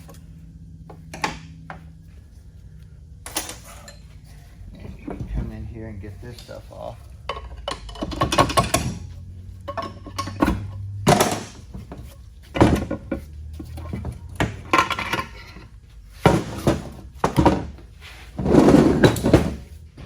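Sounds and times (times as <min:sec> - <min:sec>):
metal parts clunking: 0:03.2 - 0:20.0.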